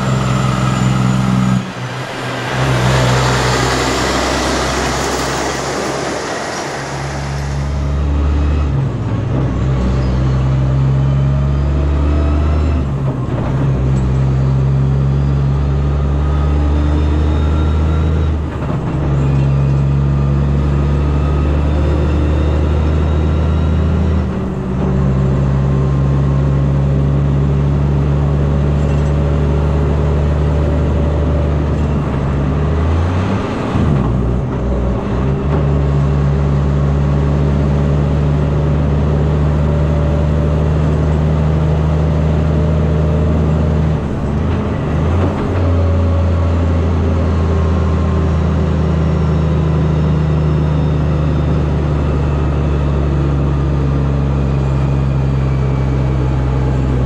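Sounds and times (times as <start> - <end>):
truck engine pulling under load: 0.0 - 57.0
truck passing close: 0.0 - 57.0.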